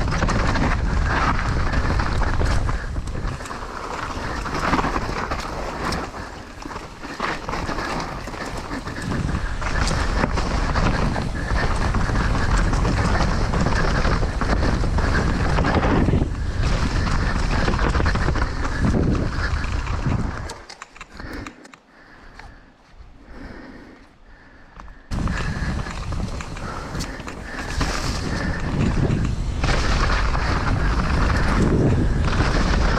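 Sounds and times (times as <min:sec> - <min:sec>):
mountain bike riding on dirt trail: 0:00.0 - 0:32.9
wind buffeting microphone: 0:00.0 - 0:32.9.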